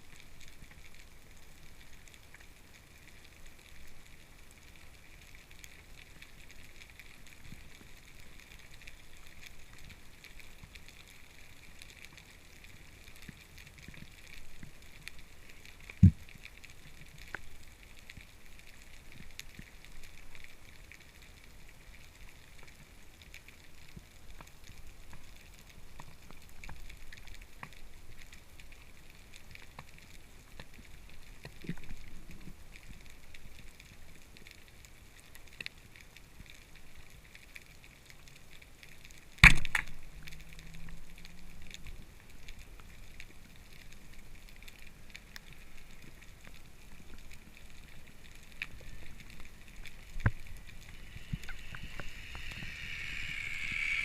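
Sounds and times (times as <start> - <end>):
underwater crackling hiss: 0.0 - 54.0
small clicks: 0.2 - 54.0.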